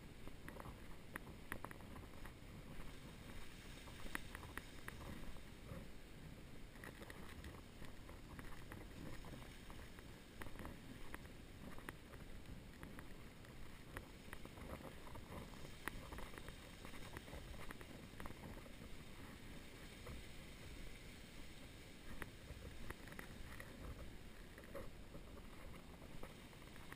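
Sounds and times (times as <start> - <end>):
light clicks and taps: 0.2 - 5.9, 6.7 - 20.3, 22.0 - 26.9.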